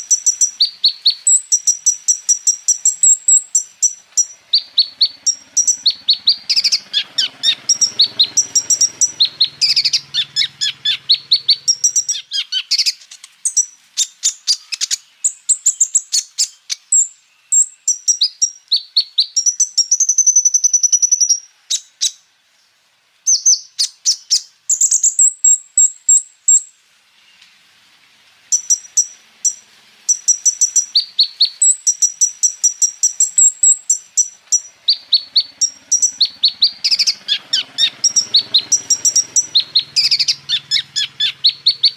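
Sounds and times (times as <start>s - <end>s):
bird chattering song: 0.0s - 22.3s, 23.3s - 27.4s, 28.5s - 41.9s.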